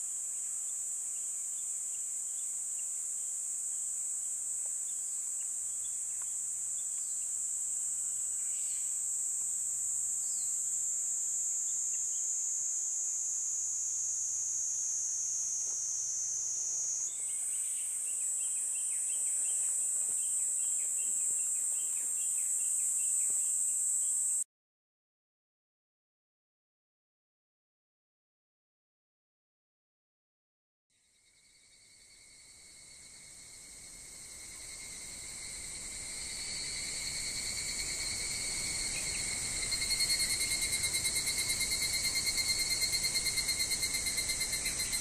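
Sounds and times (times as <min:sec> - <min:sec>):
insect chorus shrilling: 0:00.4 - 0:09.2, 0:10.1 - 0:24.4, 0:31.1 - 0:45.0.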